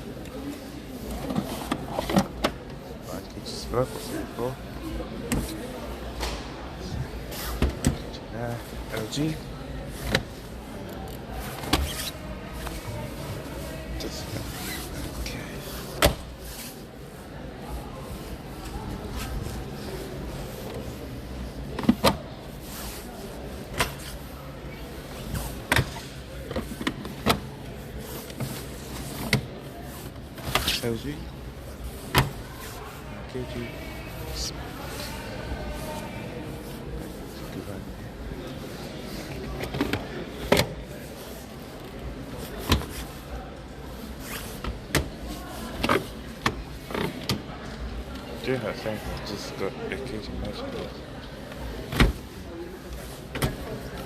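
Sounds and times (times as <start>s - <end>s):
shop floor background noise: 0.0s - 54.0s.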